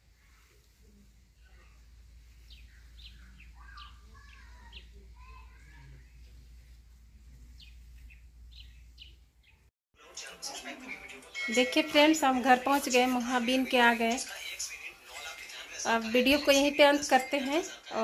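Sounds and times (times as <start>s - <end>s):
birds chirping: 1.4s - 18.0s.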